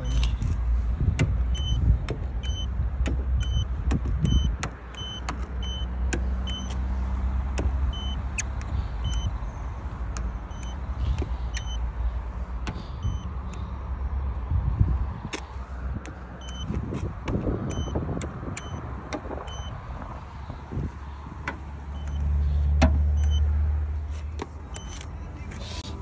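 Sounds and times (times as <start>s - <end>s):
steady low rumble: 0.0s - 4.6s, 5.5s - 26.0s
light gauge clicks: 0.0s - 11.8s, 12.6s - 13.7s, 15.3s - 19.8s, 21.4s - 23.5s, 24.3s - 25.6s.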